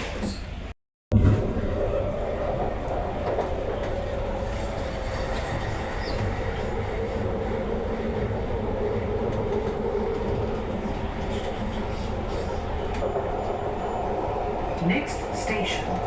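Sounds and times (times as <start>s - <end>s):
train wheels rumbling on track: 1.1s - 16.0s.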